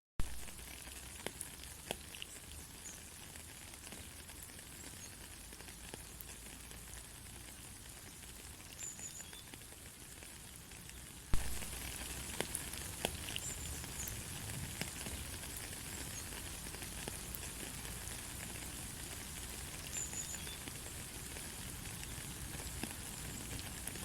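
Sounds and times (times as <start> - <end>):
raindrops tapping: 0.2 - 9.8, 11.4 - 24.0
light rain hissing: 0.2 - 24.0.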